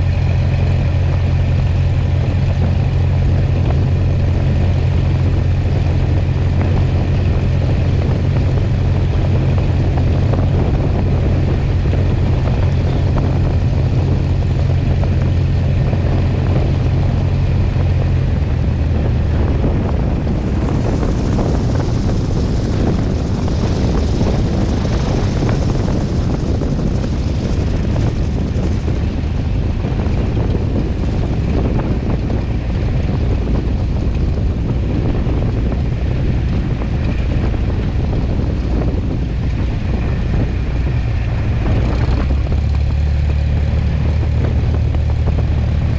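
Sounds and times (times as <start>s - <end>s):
light aircraft engine droning: 0.0s - 45.9s.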